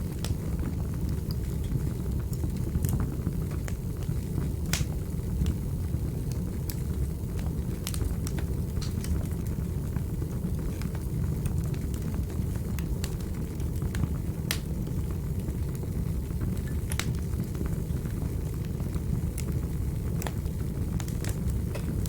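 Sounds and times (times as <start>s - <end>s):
fire crackles and pops: 0.0s - 22.0s
fire flames rumbling: 0.0s - 22.0s.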